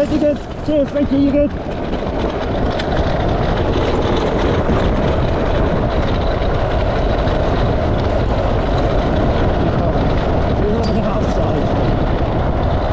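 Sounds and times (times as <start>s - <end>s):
tyres rolling over gravel: 0.0s - 12.9s.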